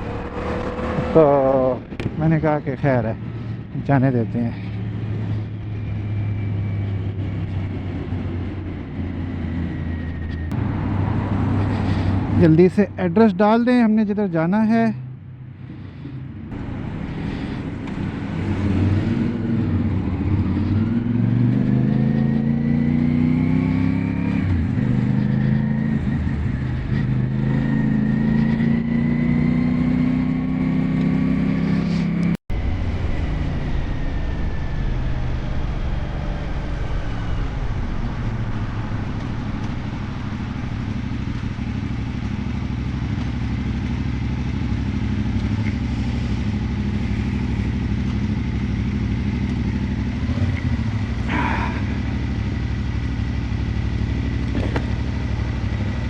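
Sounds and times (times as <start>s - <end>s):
motorcycle engine accelerating: 0.0s - 12.5s, 15.5s - 56.0s.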